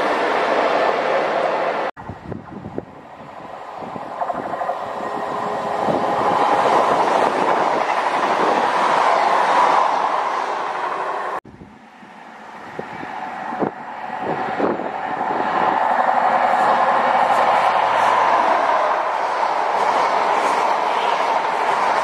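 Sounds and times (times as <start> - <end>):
train approaching: 0.0 - 22.0
train passing at speed: 0.0 - 22.0.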